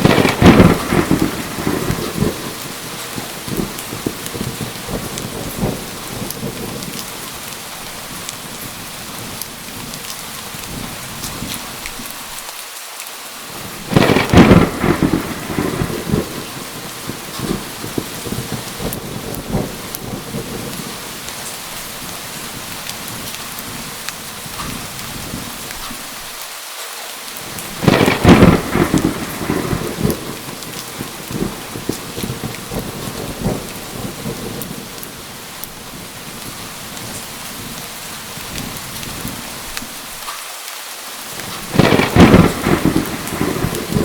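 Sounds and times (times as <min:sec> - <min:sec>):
thunderclap rumbling: 0:00.0 - 0:11.7, 0:13.5 - 0:25.9, 0:27.4 - 0:39.8, 0:41.4 - 0:44.0
heavy rain falling: 0:00.0 - 0:44.0.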